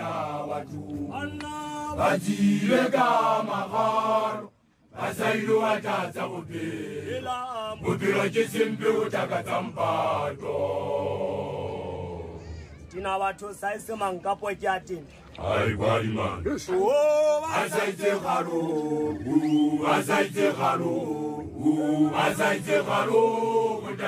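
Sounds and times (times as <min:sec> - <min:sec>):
men chanting a song: 0:00.0 - 0:12.4, 0:15.4 - 0:24.0.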